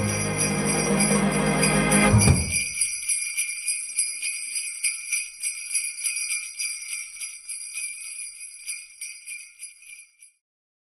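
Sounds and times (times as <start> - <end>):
jingle bells shaking: 0.0 - 10.4.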